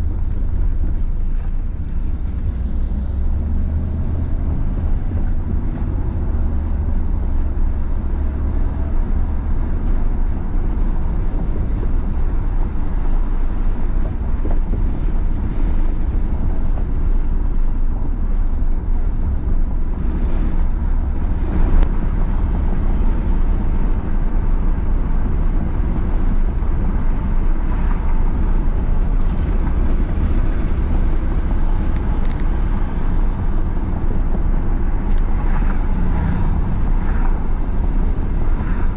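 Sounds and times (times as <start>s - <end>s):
road rumble: 0.0s - 38.9s
wind noise on microphone: 0.0s - 38.9s.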